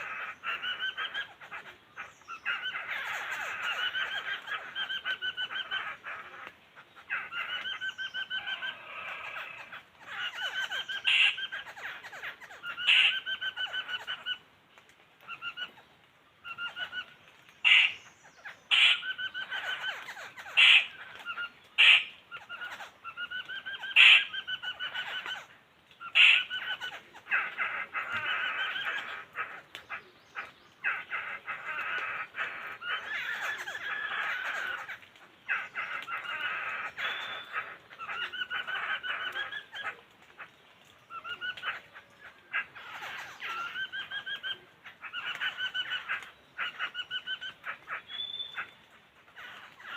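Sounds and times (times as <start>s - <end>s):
birds calling and chattering: 0.0s - 49.9s.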